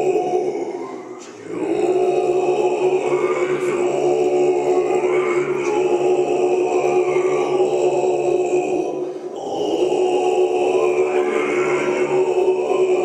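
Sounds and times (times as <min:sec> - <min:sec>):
monks throat-singing chant: 0:00.0 - 0:13.0.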